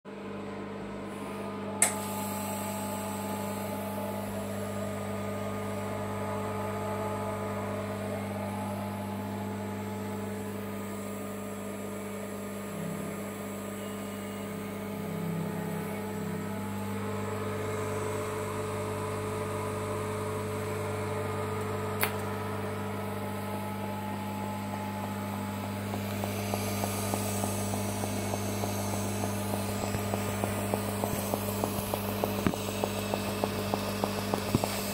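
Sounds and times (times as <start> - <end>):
welder mains hum and whine: 0.1 - 34.9.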